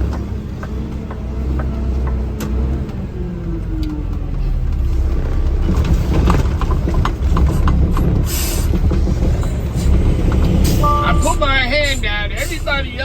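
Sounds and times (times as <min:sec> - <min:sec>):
rattles and clicks: 0:00.0 - 0:13.0
truck engine rumbling: 0:00.0 - 0:13.0.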